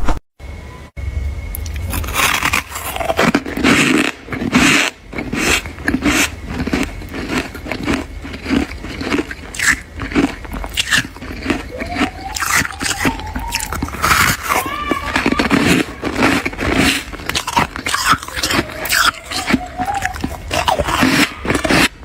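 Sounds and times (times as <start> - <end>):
chewing crunchy ice: 1.5 - 22.0.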